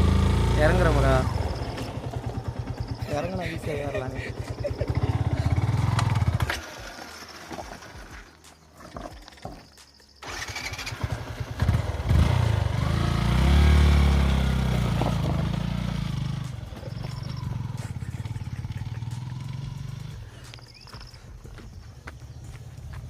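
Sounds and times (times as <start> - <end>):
motorcycle engine revving: 0.0 - 8.3, 10.2 - 21.0.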